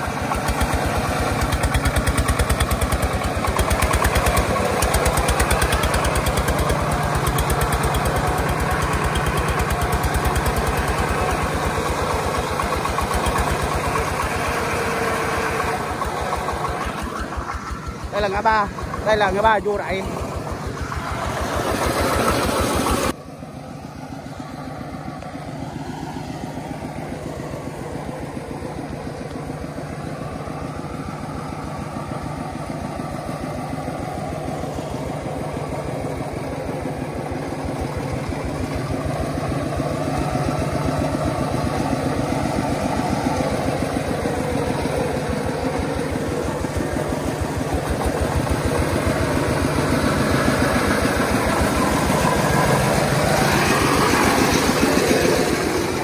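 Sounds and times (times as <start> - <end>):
tractor engine chugging: 0.0 - 56.0.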